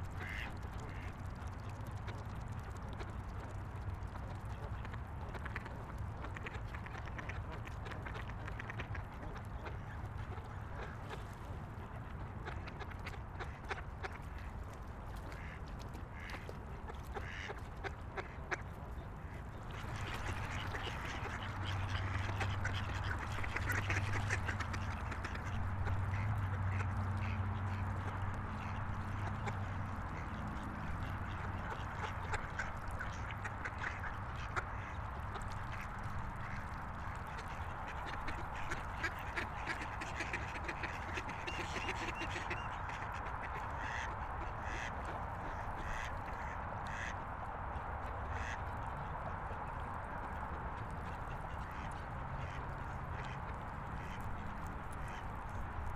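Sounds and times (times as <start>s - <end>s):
ducks quacking: 0.0s - 14.5s, 15.2s - 55.9s.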